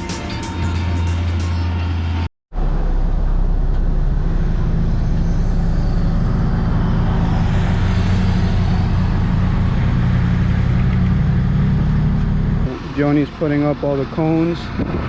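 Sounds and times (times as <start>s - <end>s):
large vehicle engine droning: 0.0s - 15.0s.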